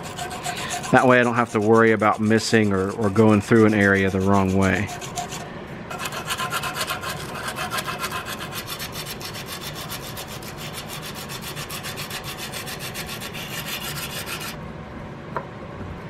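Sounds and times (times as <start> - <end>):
sandpaper rubbing on metal: 0.0 - 14.6.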